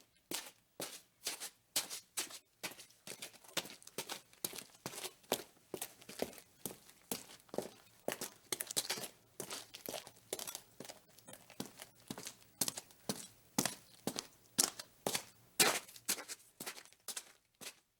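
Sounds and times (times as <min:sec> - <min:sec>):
footsteps walking: 0:00.3 - 0:17.9.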